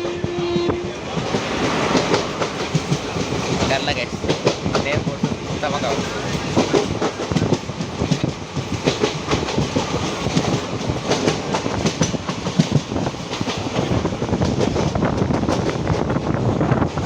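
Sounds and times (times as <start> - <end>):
train rumble: 0.0 - 17.0
train wheels clattering on rails: 0.0 - 17.0.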